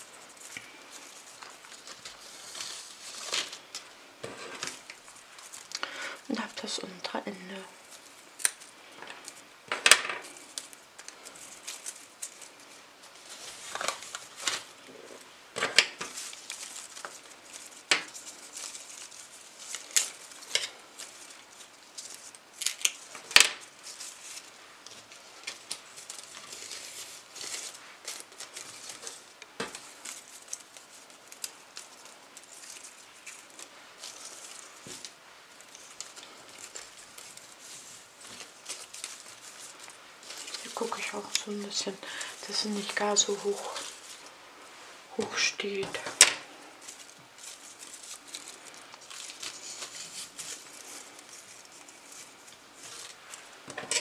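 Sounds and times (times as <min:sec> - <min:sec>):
leaves rustling: 0:00.0 - 0:54.0.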